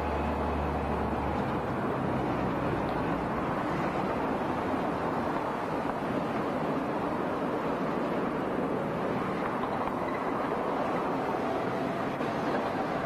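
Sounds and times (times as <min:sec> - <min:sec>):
cars driving past: 0:00.0 - 0:13.0
low engine hum: 0:00.0 - 0:13.0.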